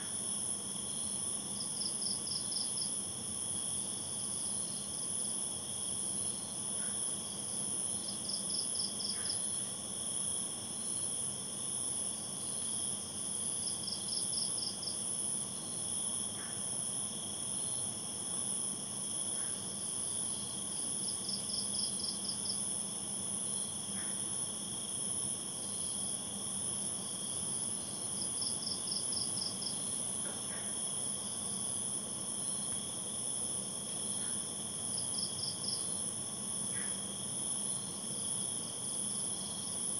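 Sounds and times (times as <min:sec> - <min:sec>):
rapid insect chirps: 0:00.0 - 0:39.9.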